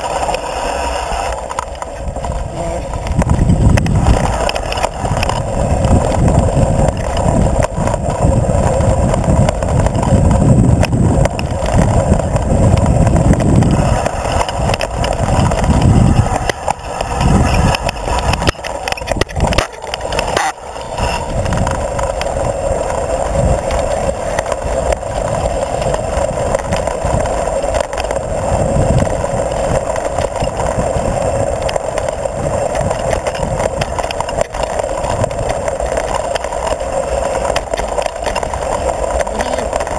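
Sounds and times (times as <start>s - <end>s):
bike rattling over stones: 0.0s - 39.9s
heavy low rumble: 0.0s - 39.9s
knobby tyre noise on dirt: 0.0s - 39.9s.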